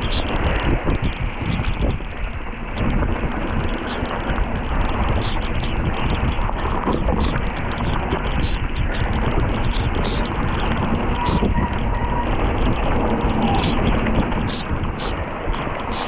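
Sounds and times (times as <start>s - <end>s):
wind rush on microphone: 0.0s - 16.0s.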